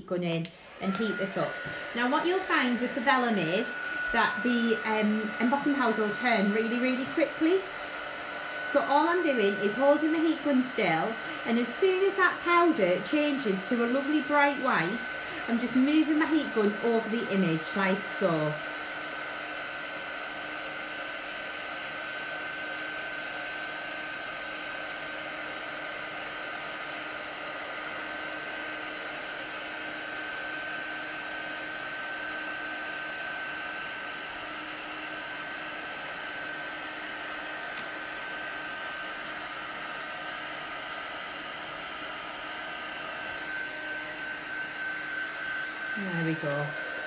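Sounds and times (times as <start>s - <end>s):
heat gun whirring: 0.0s - 47.0s.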